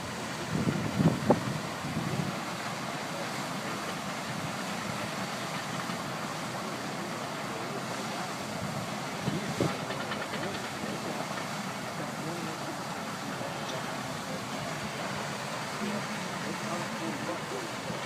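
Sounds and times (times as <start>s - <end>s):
heavy equipment working: 0.0s - 18.0s.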